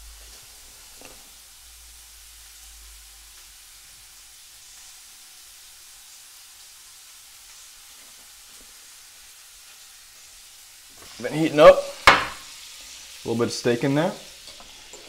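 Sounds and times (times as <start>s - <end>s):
steak sizzling in a pan: 0.0s - 15.0s.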